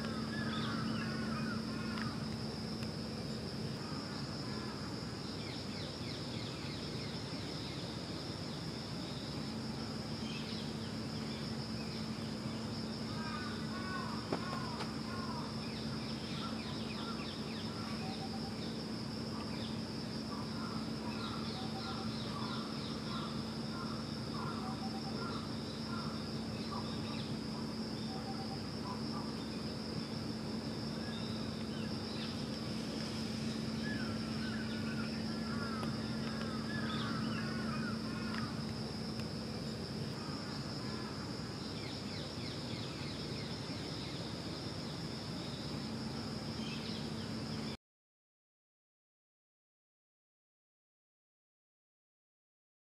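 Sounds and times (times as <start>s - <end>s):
high insect drone: 0.0s - 47.8s
low steady hum: 0.0s - 47.8s.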